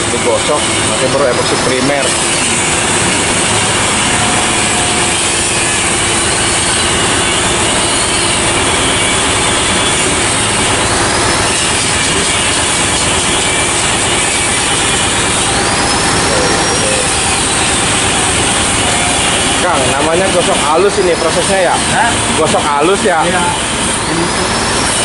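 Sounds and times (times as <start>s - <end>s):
loud steady workshop hiss: 0.0s - 25.0s.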